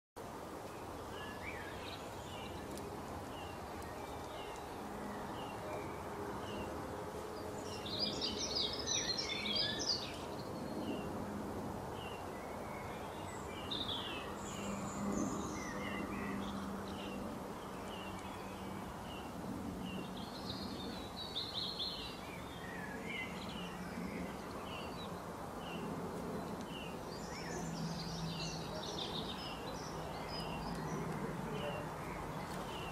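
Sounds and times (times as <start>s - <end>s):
twittering birdsong: 0.3s - 32.9s
birds chirping: 0.6s - 11.3s, 11.9s - 32.9s.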